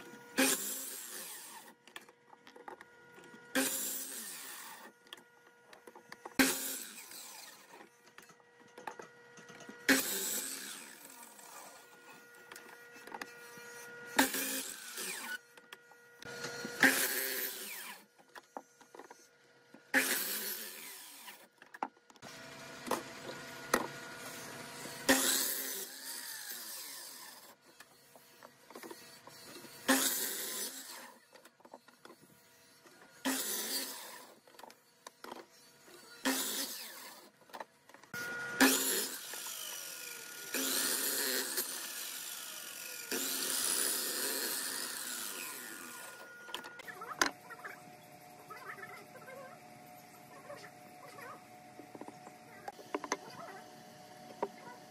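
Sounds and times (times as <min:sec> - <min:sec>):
mitre saw cutting wood: 0:00.0 - 0:08.5, 0:09.4 - 0:21.5, 0:22.2 - 0:37.4, 0:38.1 - 0:47.4
saw motor whirring: 0:00.0 - 0:54.9.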